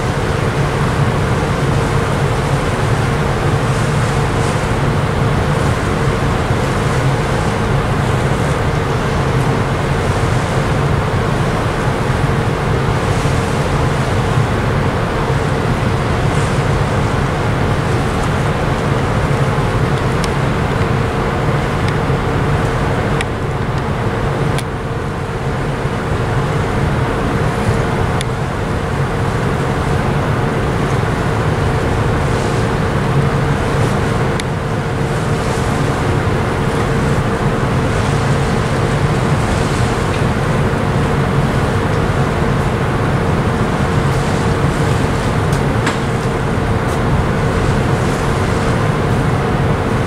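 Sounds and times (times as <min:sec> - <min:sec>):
distant port machinery: 0:00.0 - 0:50.0
mid-pitched hum: 0:00.0 - 0:50.0
ship engines droning: 0:00.0 - 0:50.0.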